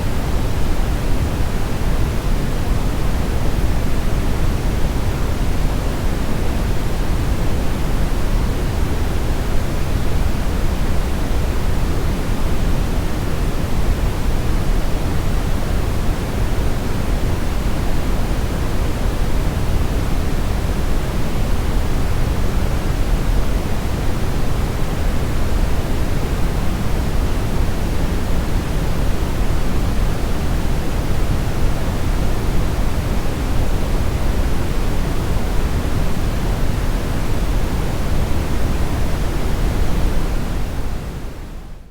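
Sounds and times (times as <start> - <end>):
brown noise hiss: 0.0 - 41.9.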